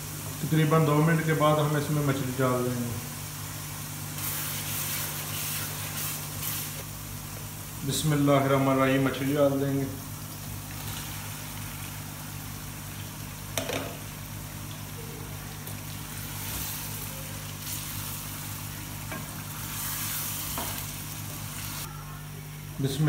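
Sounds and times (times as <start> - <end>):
fish sizzling in gravy: 0.0 - 21.9.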